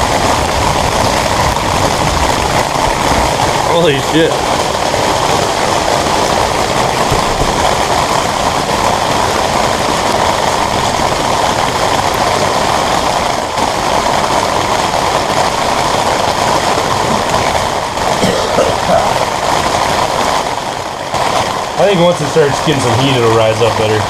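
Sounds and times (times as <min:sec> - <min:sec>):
heavy rain and hail on metal roof: 0:00.0 - 0:24.0.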